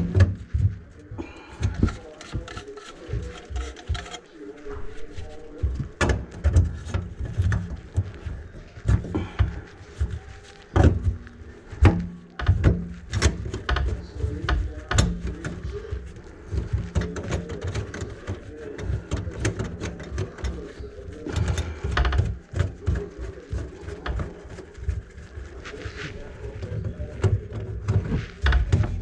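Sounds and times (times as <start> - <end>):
drain snake cable rattling in pipe: 0.0 - 29.0.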